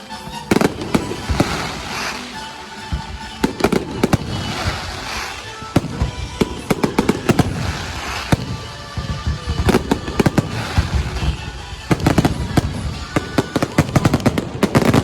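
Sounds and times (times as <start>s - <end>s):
fireworks bangs and crackles: 0.0s - 15.0s
song playing: 0.0s - 15.0s.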